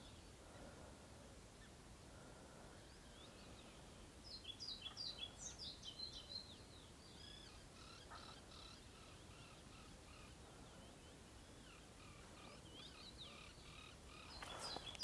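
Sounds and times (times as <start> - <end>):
faint birdsong chirps: 0.0 - 15.0
outdoor background hiss: 0.0 - 15.0.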